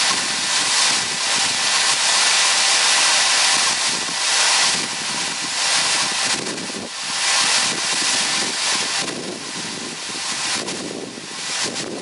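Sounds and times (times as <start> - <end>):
beans pouring from auger: 0.0 - 12.0
wind on microphone: 0.0 - 12.0.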